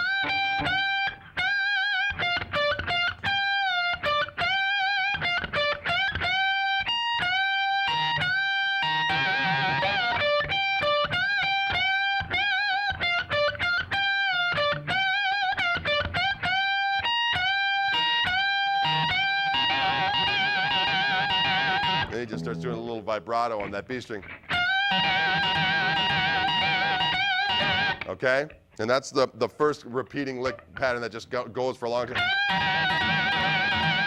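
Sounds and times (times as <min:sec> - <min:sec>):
electric guitar lick with bends: 0:00.0 - 0:28.1, 0:32.1 - 0:34.0.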